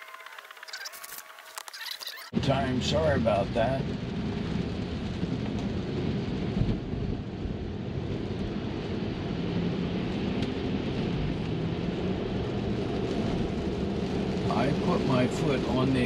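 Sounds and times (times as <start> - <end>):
rain on car glass: 2.4 - 16.0.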